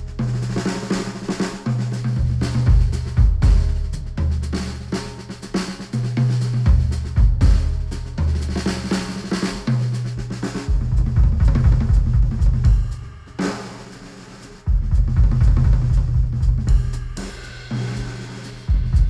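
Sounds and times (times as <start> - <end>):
drum-heavy music with deep bass: 0.0 - 19.0.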